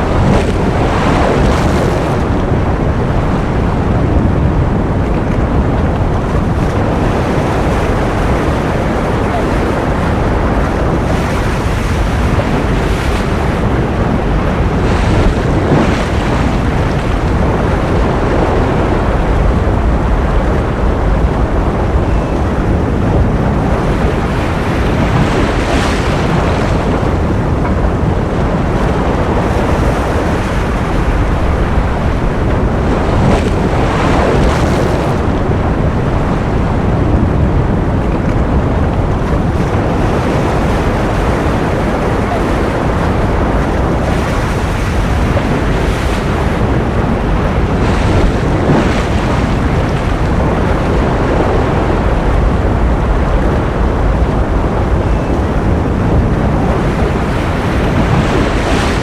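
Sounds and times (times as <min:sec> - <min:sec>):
ocean waves washing: 0:00.0 - 0:59.0.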